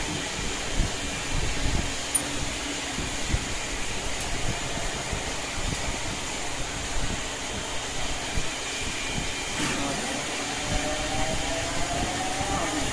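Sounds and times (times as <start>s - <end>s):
cnc machine running: 0.0s - 12.9s
whine rising in pitch: 2.4s - 12.9s.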